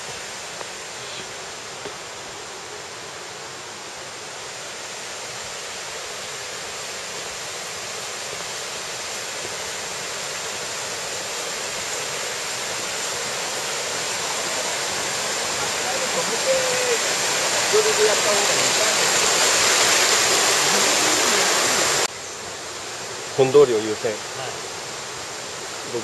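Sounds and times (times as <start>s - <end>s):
mountain stream rushing over rocks: 0.0s - 26.0s.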